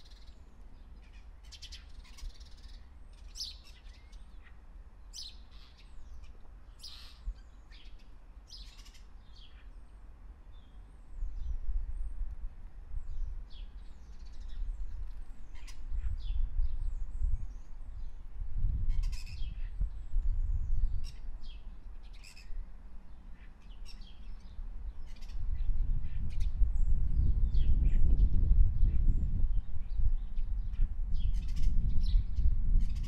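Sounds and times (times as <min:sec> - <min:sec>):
birds chirping and calling: 0:00.0 - 0:09.8, 0:13.6 - 0:20.0, 0:20.6 - 0:22.6, 0:23.3 - 0:29.3, 0:30.3 - 0:33.0.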